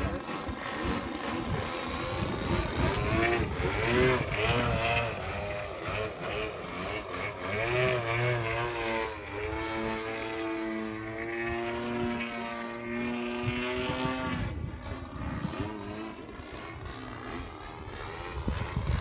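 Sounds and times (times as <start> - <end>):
model airplane engine and propeller: 0.0 - 19.0.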